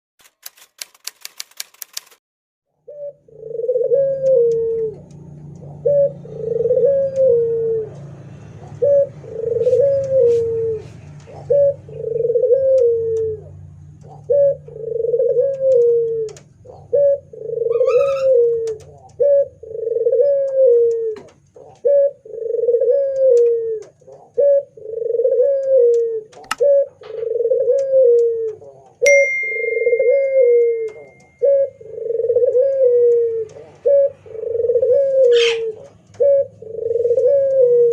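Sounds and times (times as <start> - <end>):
dove cooing: 2.9 - 37.9.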